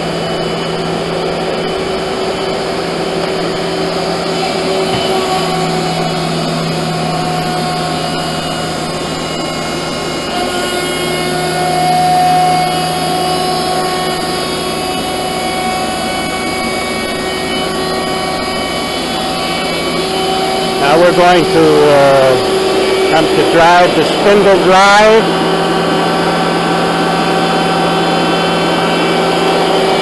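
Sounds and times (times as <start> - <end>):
hydraulic power unit humming: 0.0 - 30.0.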